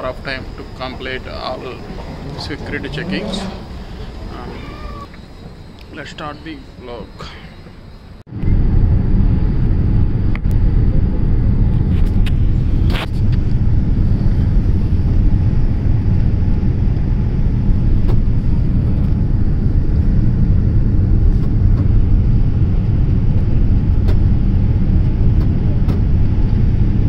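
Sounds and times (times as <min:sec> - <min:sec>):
airliner engines and rushing air: 0:00.0 - 0:27.0.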